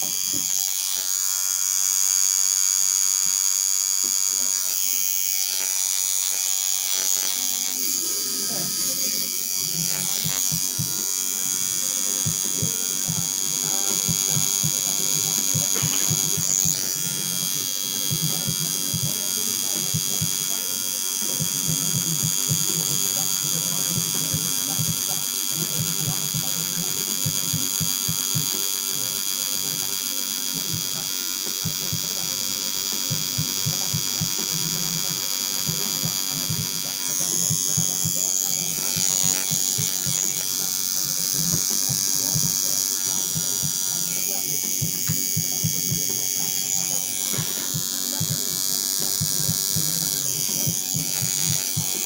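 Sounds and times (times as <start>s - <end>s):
tattoo machine buzzing: 0.0s - 52.0s.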